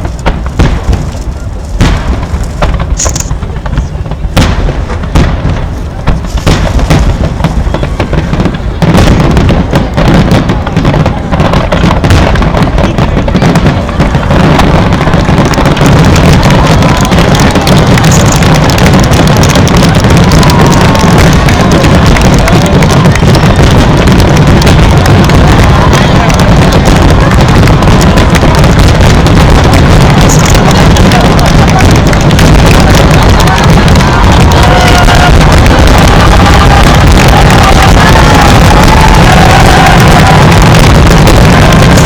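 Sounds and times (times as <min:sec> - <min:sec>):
fireworks booming and banging: 0:00.0 - 0:42.0.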